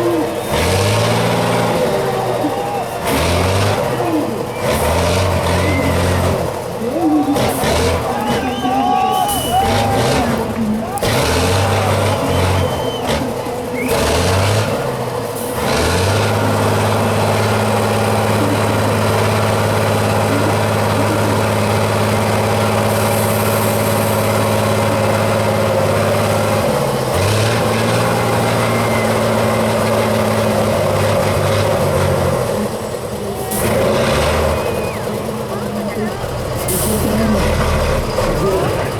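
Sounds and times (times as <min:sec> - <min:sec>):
truck diesel engine revving: 0:00.0 - 0:38.9.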